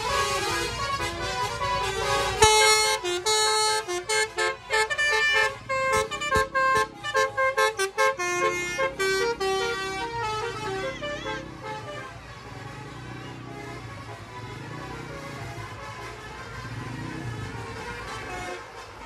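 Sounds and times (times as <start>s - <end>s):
multi-tone musical bus horn: 0.0s - 19.0s.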